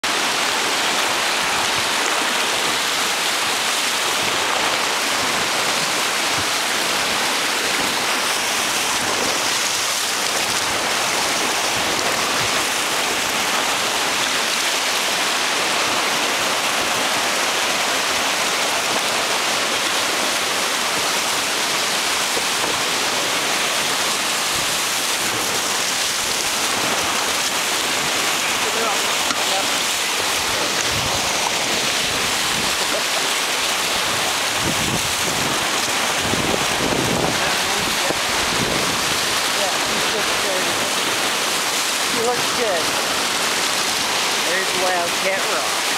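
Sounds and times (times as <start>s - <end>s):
whitewater rapids rushing: 0.0s - 45.9s.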